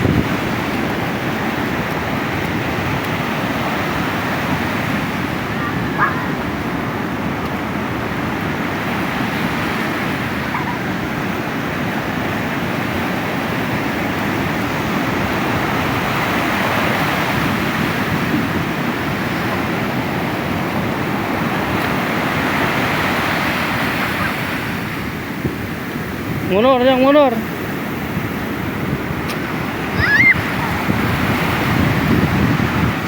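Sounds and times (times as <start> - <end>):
surf breaking on beach: 0.0 - 33.0.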